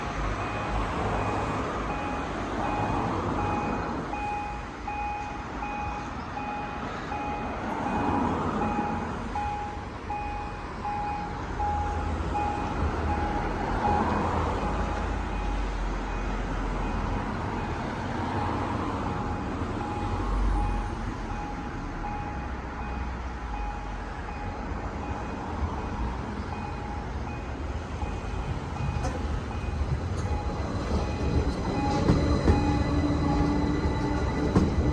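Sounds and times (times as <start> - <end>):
level crossing signal beeping: 0.0 - 34.9
road traffic: 0.0 - 34.9.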